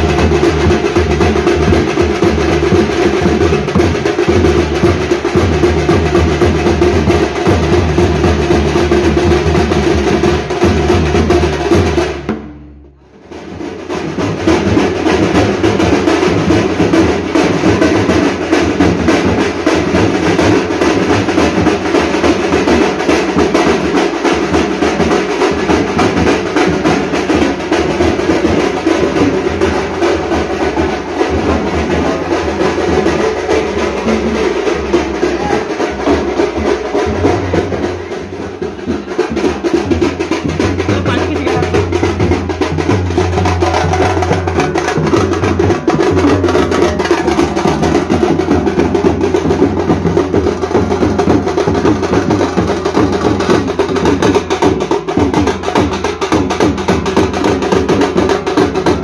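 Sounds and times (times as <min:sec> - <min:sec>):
percussion music with drums: 0:00.0 - 0:59.0.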